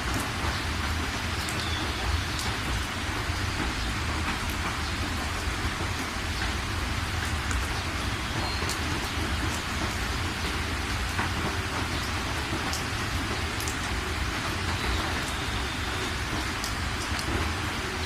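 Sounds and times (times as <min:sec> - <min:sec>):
rain pattering on surfaces: 0:00.0 - 0:18.0.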